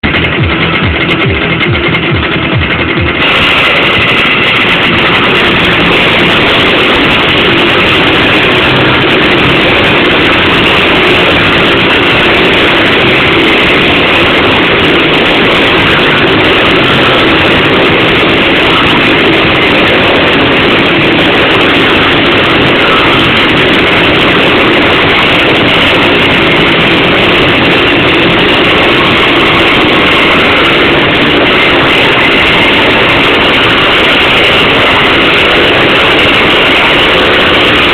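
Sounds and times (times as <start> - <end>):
motorcycle engines revving: 0.0 - 37.9.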